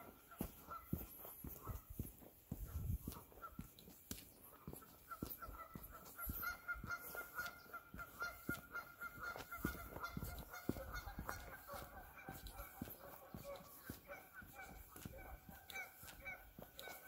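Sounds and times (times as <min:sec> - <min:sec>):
footsteps on a trail: 0:00.0 - 0:17.0.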